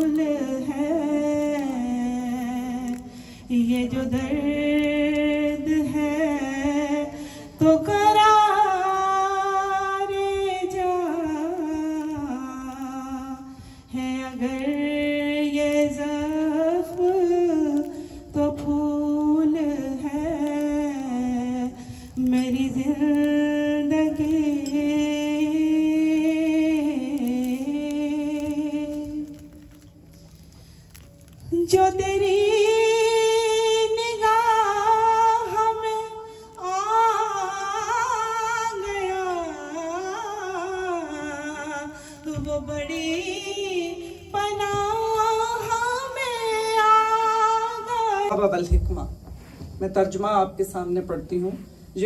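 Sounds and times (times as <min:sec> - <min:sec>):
woman singing unaccompanied: 0:00.0 - 0:29.8, 0:31.4 - 0:48.6.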